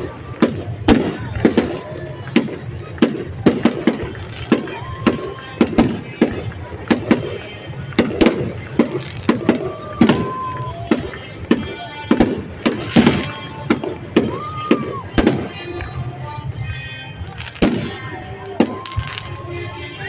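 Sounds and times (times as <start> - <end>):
fireworks banging: 0.0 - 20.0
music over loudspeakers: 0.0 - 20.0.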